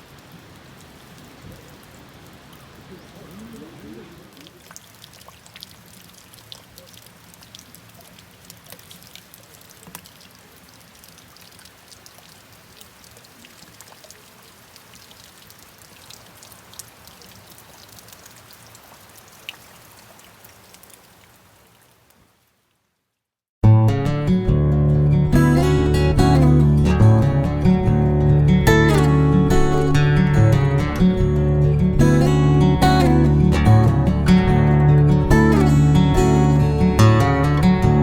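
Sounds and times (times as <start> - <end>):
rain drops ticking: 0.0 - 23.0, 24.5 - 38.0.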